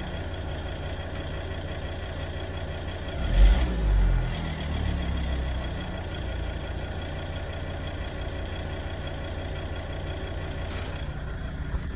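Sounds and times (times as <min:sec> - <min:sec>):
car engine idling with knock: 0:00.0 - 0:03.4, 0:04.3 - 0:11.9.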